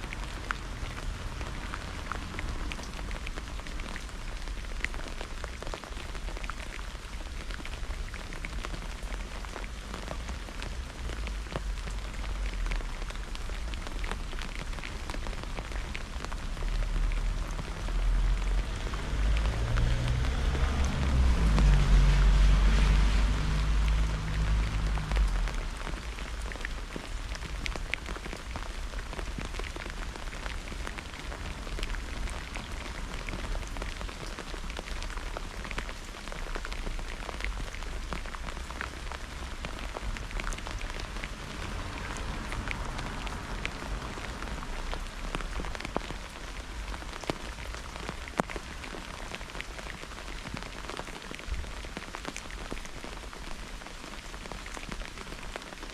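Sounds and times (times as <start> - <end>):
steady rain with ticking drops: 0.0 - 55.9.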